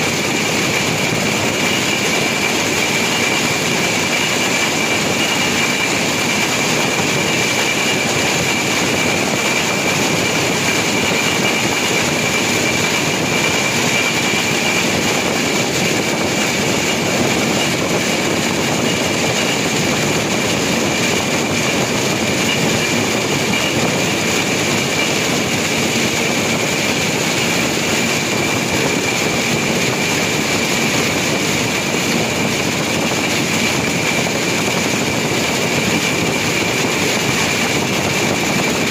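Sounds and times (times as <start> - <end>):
constant high whine: 0.0 - 38.9
rail inspection car engine and wheels: 0.0 - 38.9.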